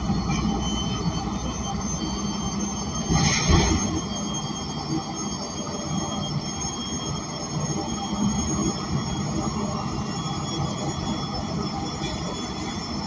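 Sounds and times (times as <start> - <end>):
bus engine low rumble: 0.0 - 13.0
thin high-pitched whines: 0.0 - 13.0.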